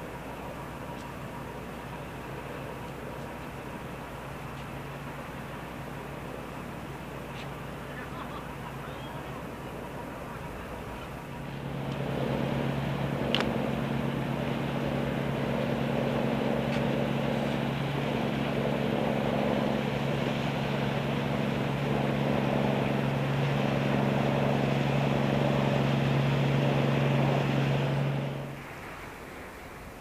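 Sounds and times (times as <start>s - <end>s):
hiss of bow wave and wake: 0.0s - 30.0s
motorboat engine drone: 0.0s - 30.0s.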